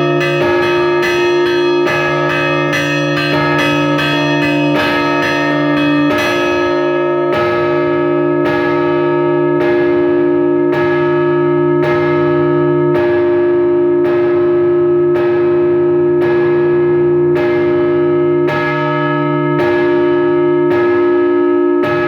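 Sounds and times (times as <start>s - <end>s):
church bells ringing: 0.0s - 22.0s
deep bell ringing tone: 0.0s - 22.0s.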